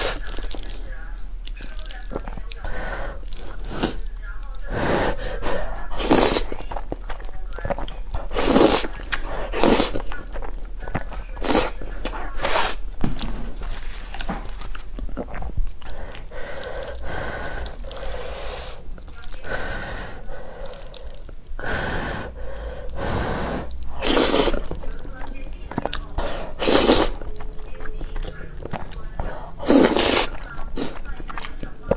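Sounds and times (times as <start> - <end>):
chewing: 0.0 - 31.9
slurping noodles: 0.0 - 31.9.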